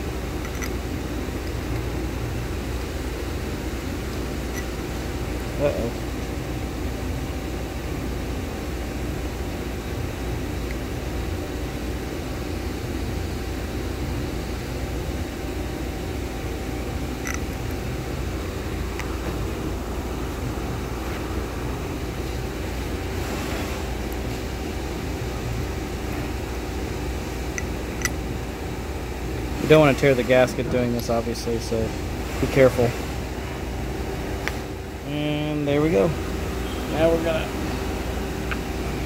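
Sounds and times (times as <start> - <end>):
low machinery drone: 0.0 - 39.0.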